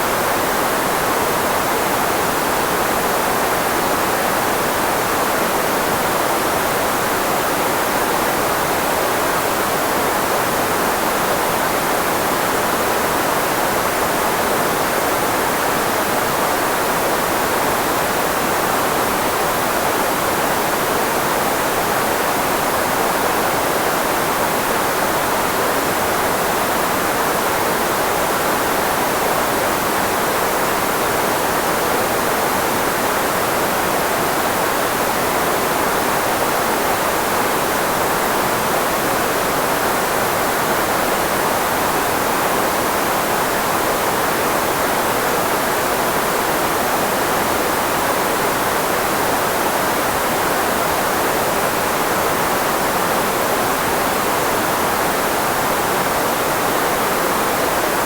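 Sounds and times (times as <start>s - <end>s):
filtered white noise hiss: 0.0s - 58.0s.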